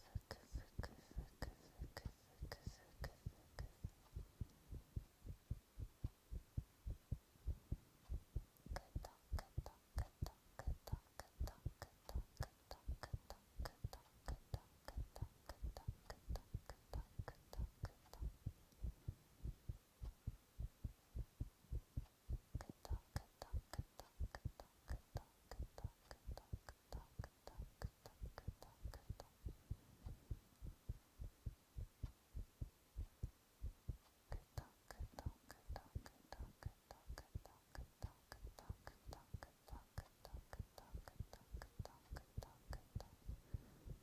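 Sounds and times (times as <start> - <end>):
heartbeat thuds: 3.2 - 44.0.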